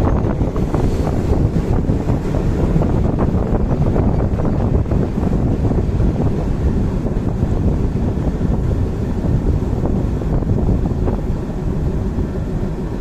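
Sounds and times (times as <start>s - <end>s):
train wheels rumbling on rails: 0.0s - 13.0s
wind buffeting microphone: 0.0s - 13.0s.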